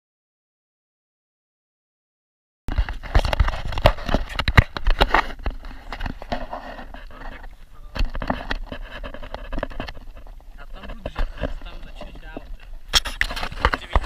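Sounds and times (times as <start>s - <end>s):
knocks and scrapes on grass: 2.7s - 14.0s.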